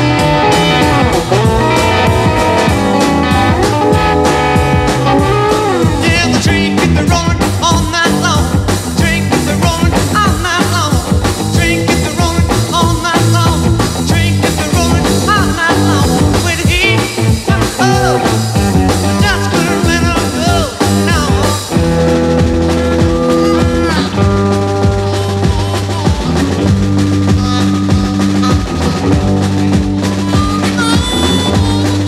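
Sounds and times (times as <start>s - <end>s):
lead guitar bending notes: 0.0s - 8.6s, 14.8s - 32.0s
driving drum beat: 0.0s - 32.0s
rock band instrumental: 0.0s - 32.0s.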